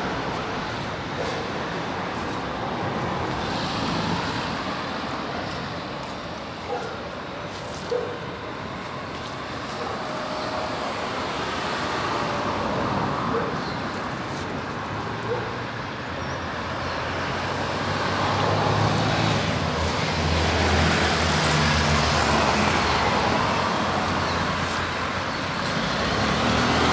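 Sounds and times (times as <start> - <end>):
passing vehicles rushing: 0.0 - 26.9
vehicle engine hum: 0.0 - 26.9.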